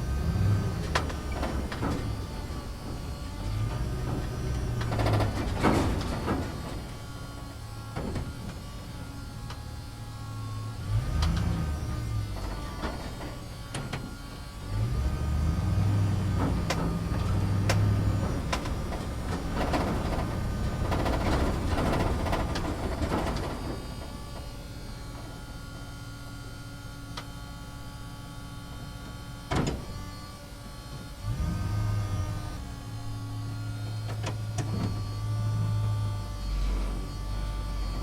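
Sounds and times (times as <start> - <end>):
small electric motors whining: 0.0 - 38.0.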